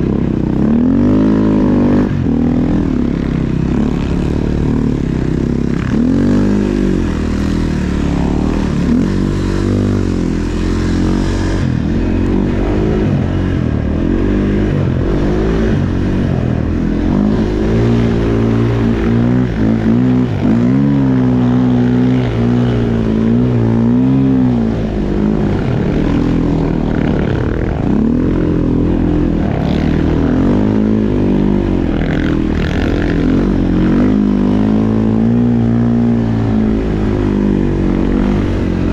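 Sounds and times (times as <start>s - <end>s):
snow bike engine revving: 0.0s - 38.9s.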